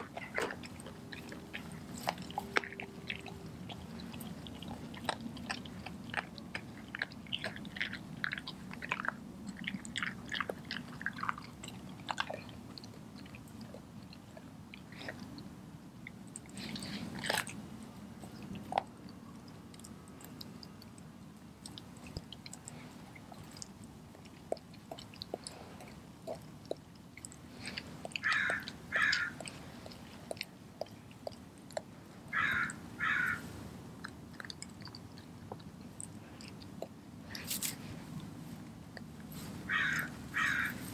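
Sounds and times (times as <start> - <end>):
dog chewing and crunching bones: 0.0 - 40.9.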